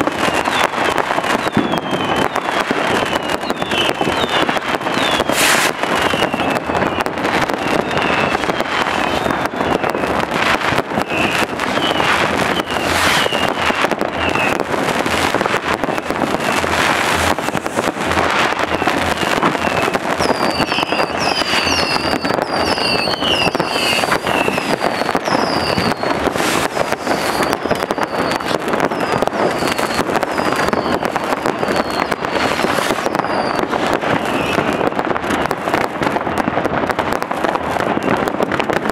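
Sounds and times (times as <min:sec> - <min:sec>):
firecrackers going off: 0:00.0 - 0:38.9
fireworks crackling and banging: 0:00.0 - 0:38.9
fireworks high whistles: 0:00.0 - 0:38.9.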